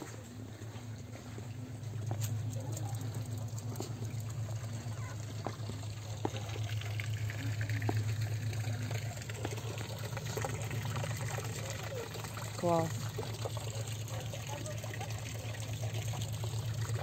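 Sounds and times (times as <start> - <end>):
continuous low rumble: 0.0 - 17.0
water splashing into pool: 2.2 - 17.0.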